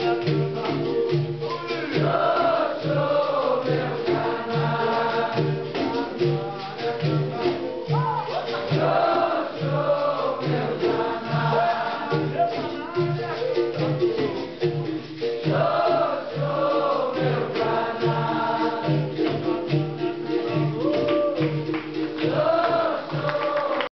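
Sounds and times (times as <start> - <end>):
berimbau: 0.0 - 23.8
group singing in chorus: 0.0 - 23.9.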